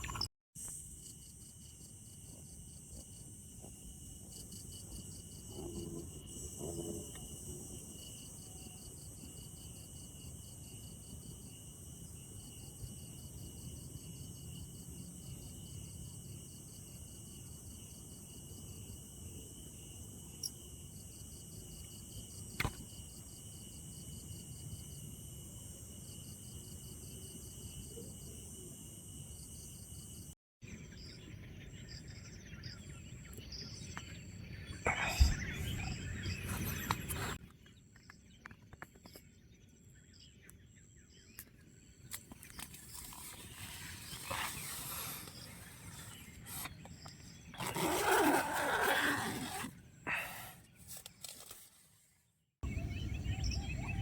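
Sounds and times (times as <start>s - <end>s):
crickets chirping: 0.0s - 37.4s, 38.0s - 51.6s.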